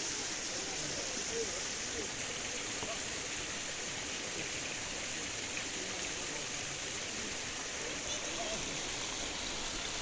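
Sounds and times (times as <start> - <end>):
flowing water rushing: 0.0 - 10.0.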